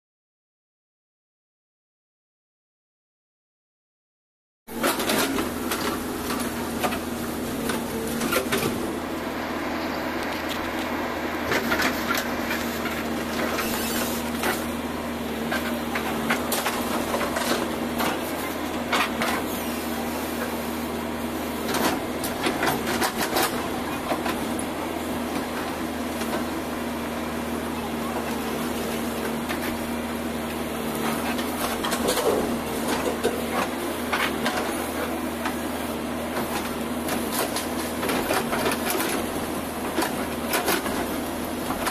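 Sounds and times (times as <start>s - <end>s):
diesel engine running: 4.7s - 41.9s.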